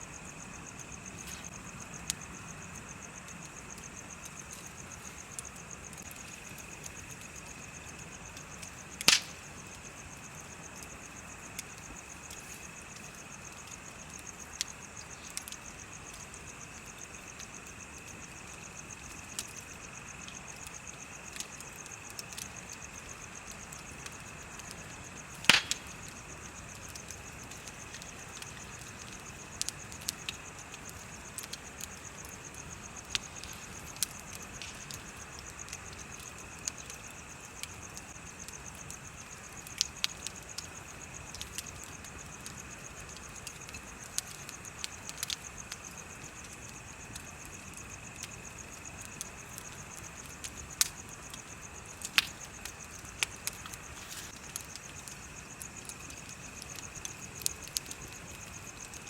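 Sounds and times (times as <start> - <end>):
insects chirping: 0.0 - 59.0
bonfire crackling and popping: 0.1 - 59.0.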